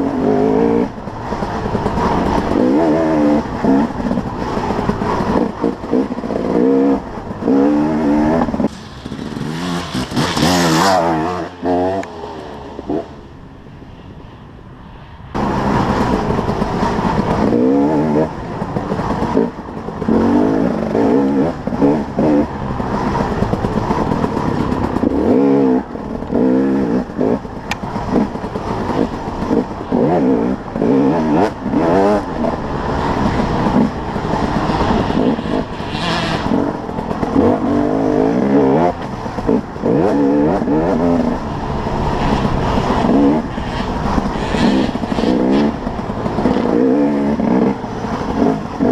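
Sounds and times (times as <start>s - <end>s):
dirt bike engine revving: 0.0s - 13.3s, 15.4s - 48.9s.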